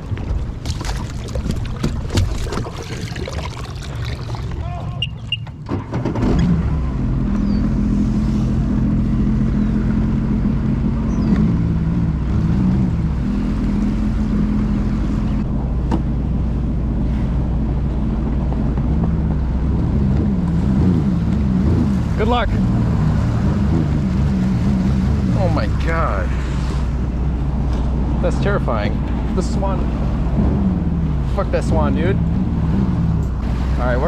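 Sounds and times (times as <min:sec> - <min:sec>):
jet ski engine running: 0:04.4 - 0:34.0.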